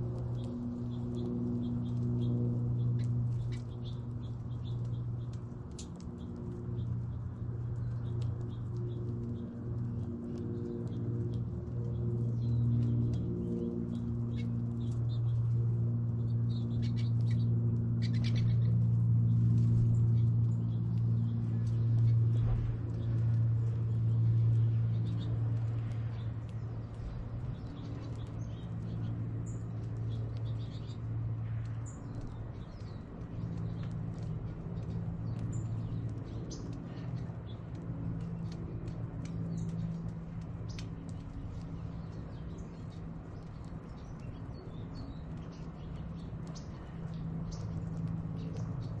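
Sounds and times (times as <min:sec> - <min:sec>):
low mechanical hum: 0:00.0 - 0:49.0.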